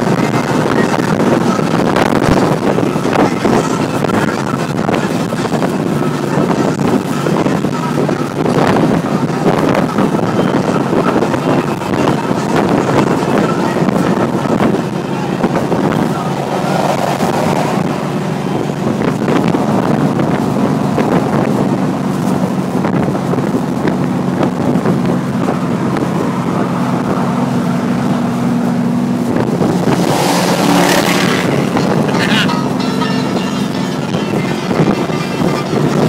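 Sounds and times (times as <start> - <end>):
car engine cruising: 0.0 - 36.0
road and wind noise: 0.0 - 36.0
truck passing close: 0.0 - 36.0.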